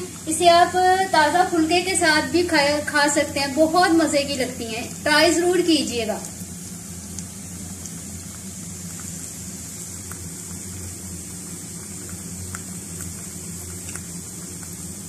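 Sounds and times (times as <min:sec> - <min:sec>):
deep-frying sizzle with pops: 0:00.0 - 0:15.0
low steady hum: 0:00.0 - 0:15.0.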